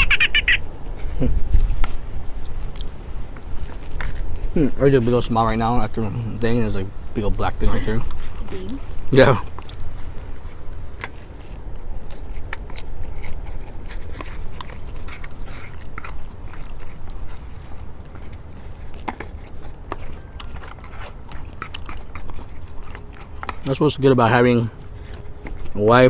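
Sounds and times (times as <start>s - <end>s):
chewing food: 0.8s - 26.0s.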